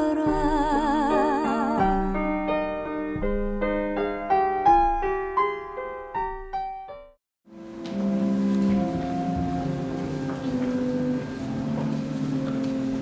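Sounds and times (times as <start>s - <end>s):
slow soft solo piano: 0.3s - 13.0s.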